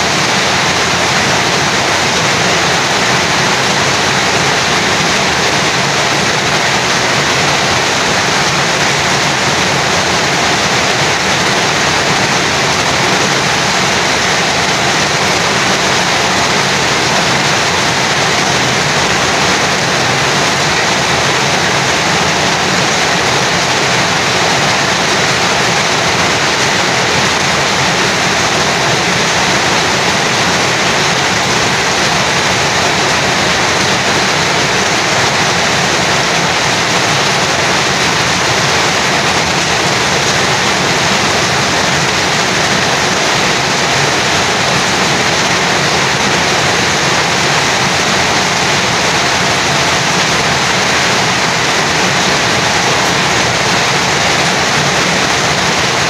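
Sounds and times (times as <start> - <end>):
heavy rain falling: 0.0 - 56.0
water streaming off roof: 0.0 - 56.0.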